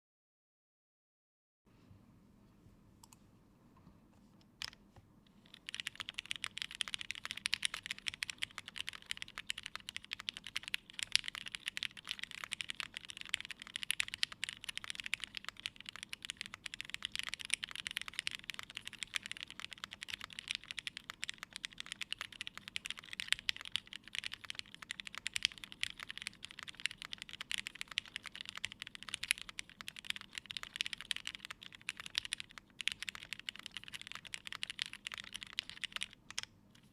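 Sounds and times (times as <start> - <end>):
typing on mechanical keyboard: 5.4 - 36.9.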